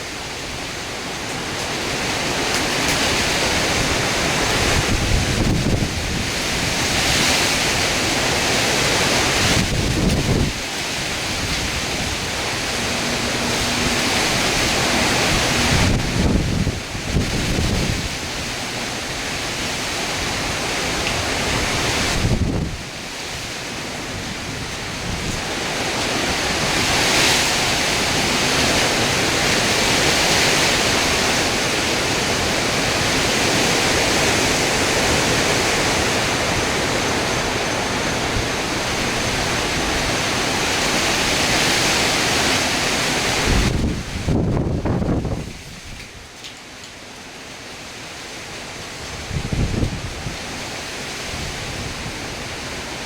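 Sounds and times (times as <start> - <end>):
heavy rain: 0.0 - 53.0
hurricane wind: 0.0 - 53.0.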